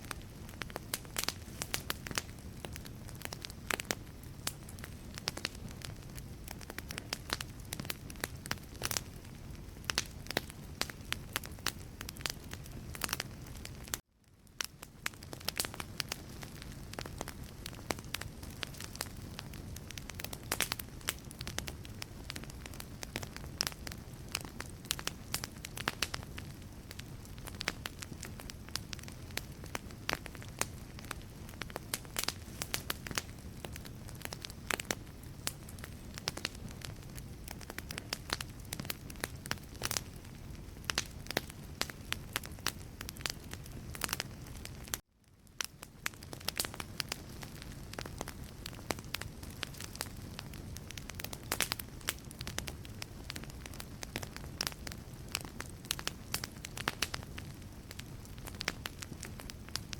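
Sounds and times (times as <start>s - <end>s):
fire rumbling: 0.0s - 59.9s
wood crackling and popping: 0.0s - 59.9s.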